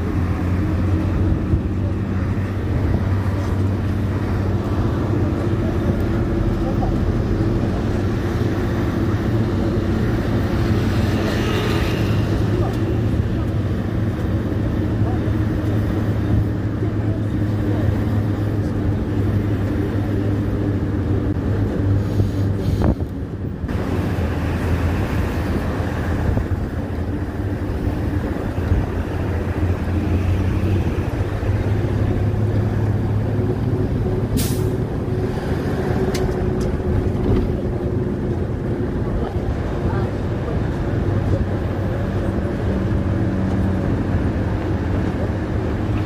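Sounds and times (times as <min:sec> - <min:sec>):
vehicle engine hum and road noise: 0:00.0 - 0:46.0.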